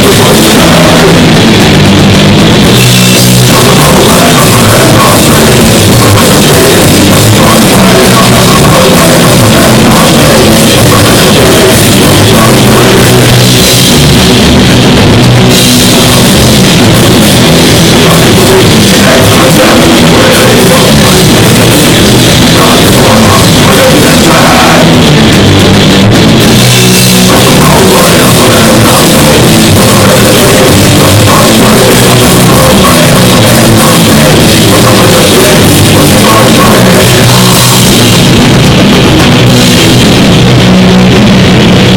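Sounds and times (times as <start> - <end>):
drum kit: 0.0 - 41.9
rock band playing live: 0.0 - 41.9.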